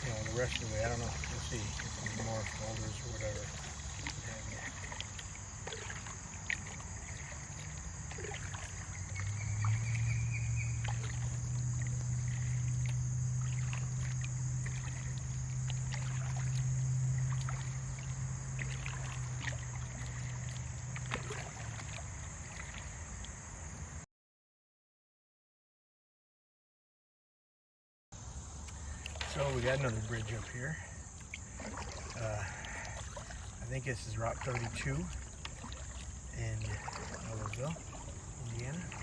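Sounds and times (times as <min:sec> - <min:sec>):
paddle strokes and splashes: 0:00.0 - 0:24.0, 0:28.2 - 0:39.0.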